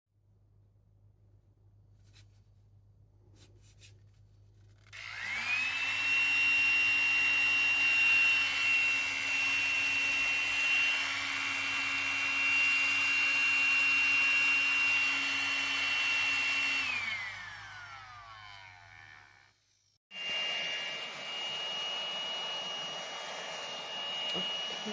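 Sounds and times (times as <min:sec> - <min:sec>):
pet trimmer motor whine: 0:05.0 - 0:24.9.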